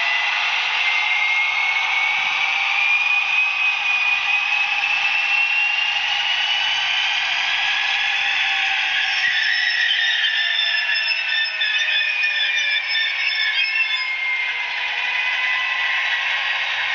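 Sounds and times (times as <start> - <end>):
whine rising in pitch: 0.0 - 16.9.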